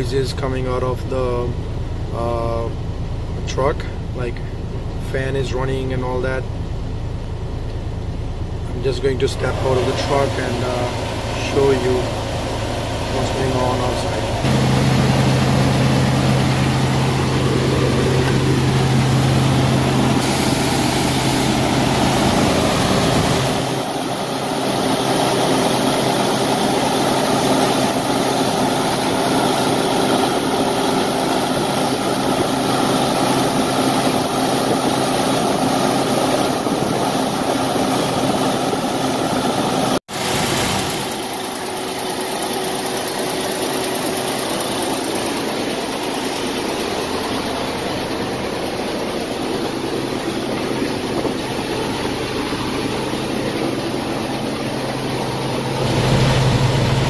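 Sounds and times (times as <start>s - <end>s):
cooling fan running: 0.0s - 57.0s
diesel truck engine idling: 0.0s - 57.0s.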